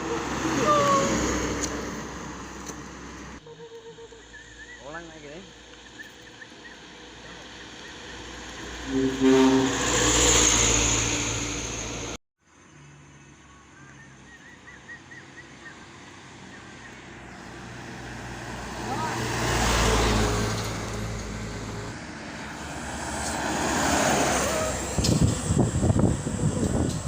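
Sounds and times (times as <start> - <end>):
road traffic engine hum: 0.0 - 27.0.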